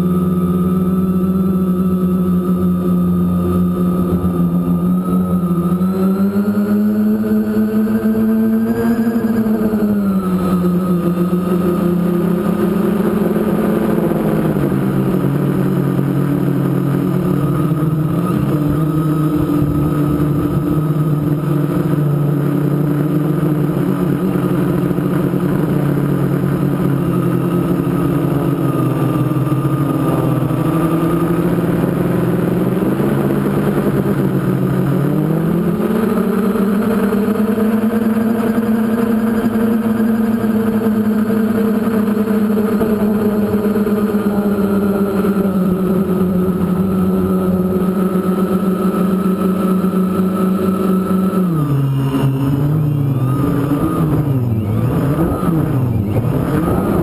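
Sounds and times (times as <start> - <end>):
drone propellers droning: 0.0 - 57.0.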